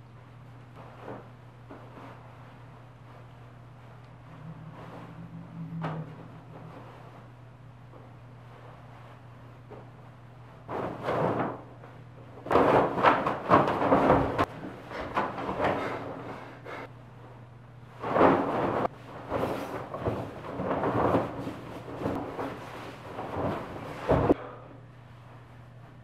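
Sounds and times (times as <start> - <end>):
bed sheet swishing and rustling: 0.8 - 11.7, 12.3 - 16.0, 17.9 - 24.4.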